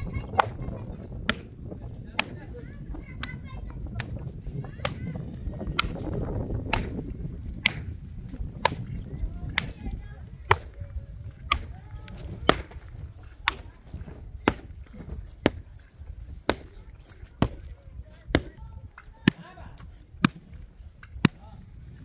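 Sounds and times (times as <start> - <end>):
wood striking earthen roof: 0.2 - 21.5.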